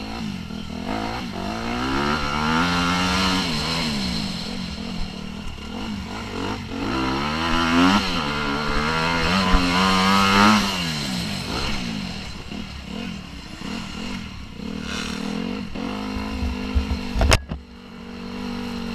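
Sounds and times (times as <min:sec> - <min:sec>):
motorbike engine revving: 0:00.0 - 0:18.9.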